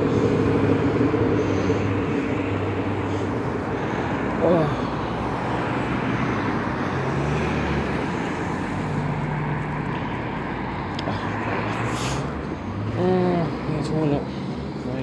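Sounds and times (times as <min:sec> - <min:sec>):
cars driving past: 0:00.0 - 0:15.0
low engine hum: 0:00.0 - 0:15.0.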